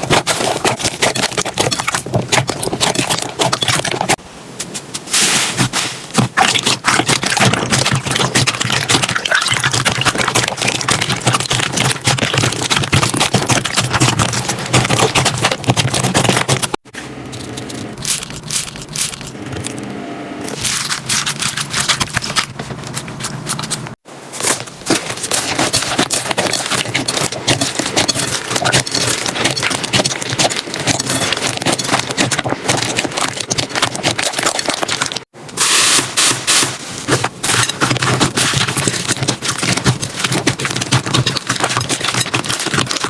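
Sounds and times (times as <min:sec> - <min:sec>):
sticky scraping of slime: 0:00.0 - 0:19.8, 0:20.5 - 0:43.0.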